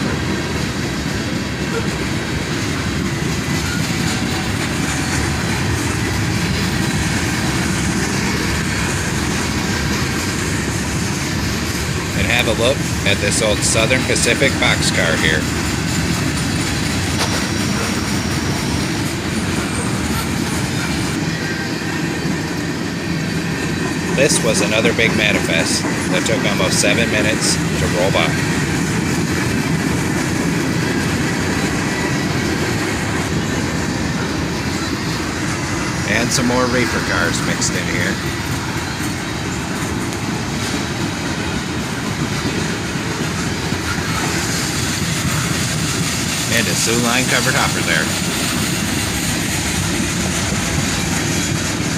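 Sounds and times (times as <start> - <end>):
high wheel squeal: 0.0 - 29.4, 30.6 - 51.8
freight train wheels rumbling: 0.0 - 51.9.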